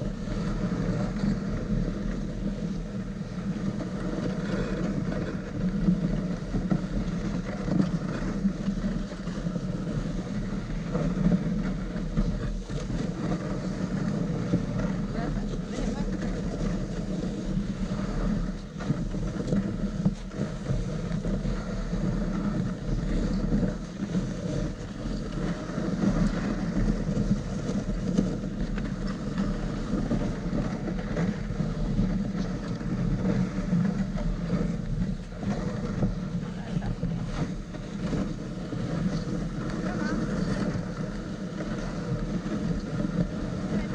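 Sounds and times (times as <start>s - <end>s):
sled rumbling and scraping on snow: 0.0s - 43.9s.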